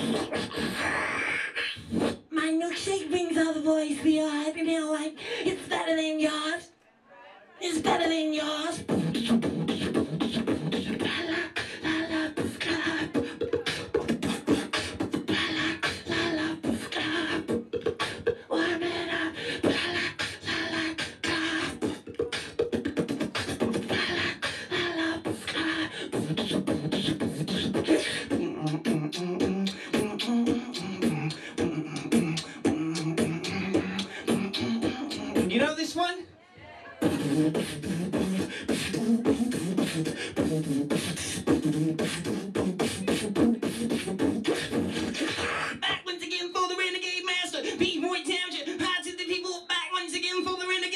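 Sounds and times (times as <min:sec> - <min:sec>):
beatboxing into microphone: 0:00.0 - 0:06.6, 0:07.6 - 0:36.3, 0:36.9 - 0:50.9.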